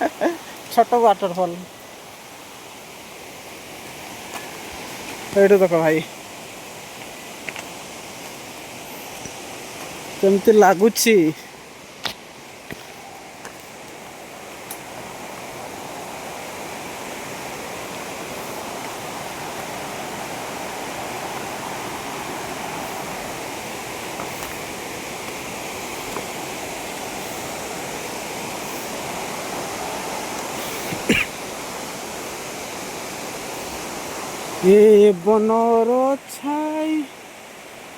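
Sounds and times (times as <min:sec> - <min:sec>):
waterfall rushing and splashing: 0:00.0 - 0:37.9.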